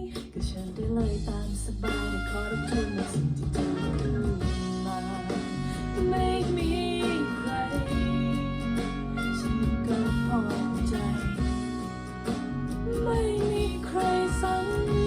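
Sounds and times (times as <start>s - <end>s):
pop song over loudspeakers: 0.0s - 15.0s.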